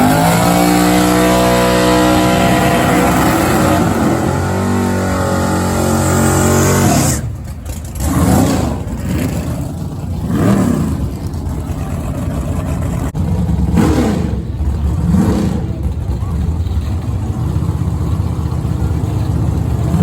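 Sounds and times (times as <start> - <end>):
drag racing car engine revving: 0.0 - 20.0.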